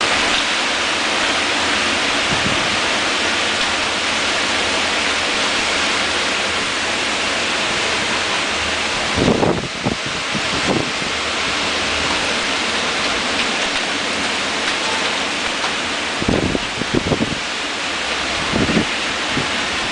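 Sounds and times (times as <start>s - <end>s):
wind storm roaring: 0.0s - 19.9s.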